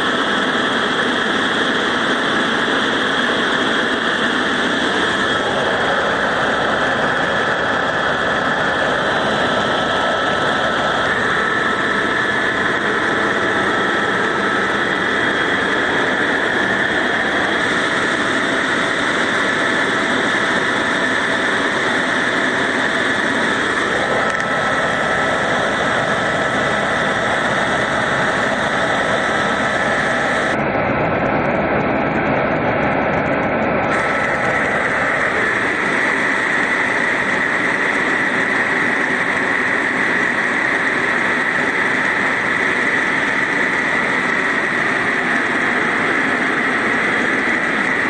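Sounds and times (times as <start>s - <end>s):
helicopter engine and rotor running: 0.0s - 48.0s.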